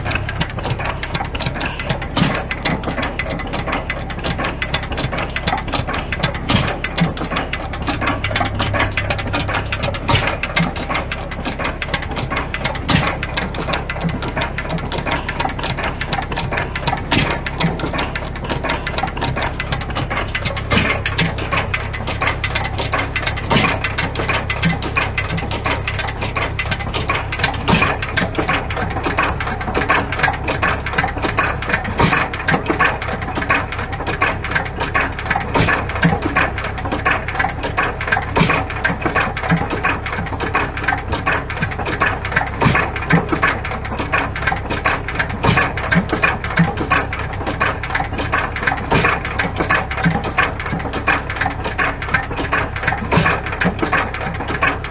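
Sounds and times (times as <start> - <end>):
stationary engine clattering: 0.0 - 54.9.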